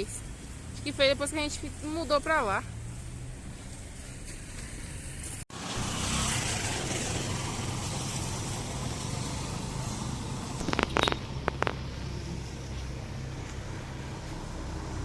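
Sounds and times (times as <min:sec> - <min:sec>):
street noise: 0:00.0 - 0:15.0
vehicle engine running: 0:00.0 - 0:15.0.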